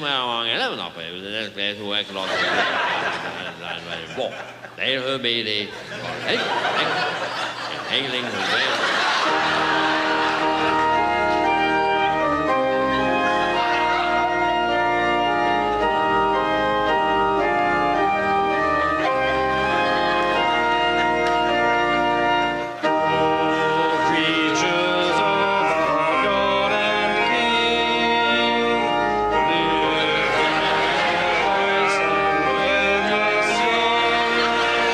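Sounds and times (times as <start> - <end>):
organ playing sustained chords: 0.0 - 34.9.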